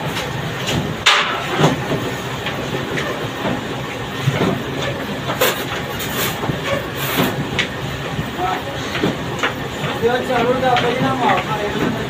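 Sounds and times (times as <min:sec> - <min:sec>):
workshop machinery running: 0:00.0 - 0:12.0.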